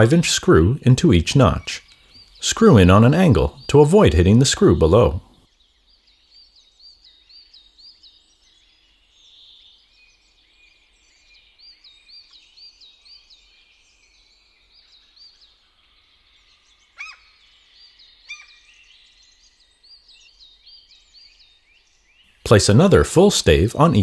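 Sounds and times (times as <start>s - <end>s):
small birds chirping: 0.0s - 24.0s
sharp bird chirps: 1.1s - 24.0s.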